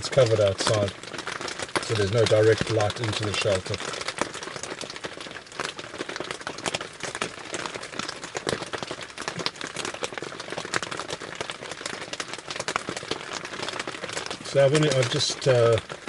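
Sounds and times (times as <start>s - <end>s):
rain pattering on a tarp: 0.0s - 16.0s.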